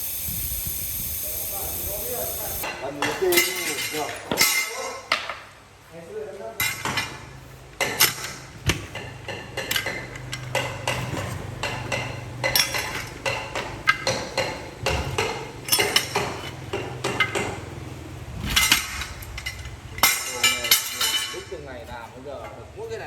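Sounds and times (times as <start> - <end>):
metal tools clanking on metal: 0.7 - 5.2, 6.6 - 17.6, 18.4 - 23.0.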